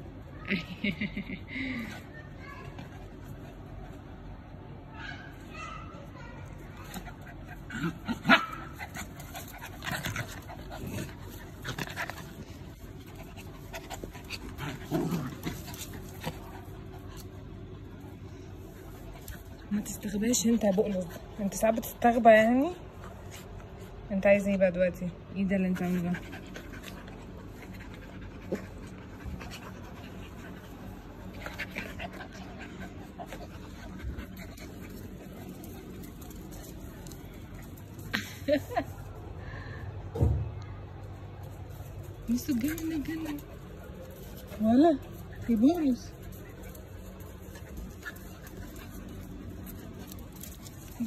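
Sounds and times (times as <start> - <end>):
puppies panting: 6.5 - 24.4, 25.3 - 39.4, 42.0 - 51.0.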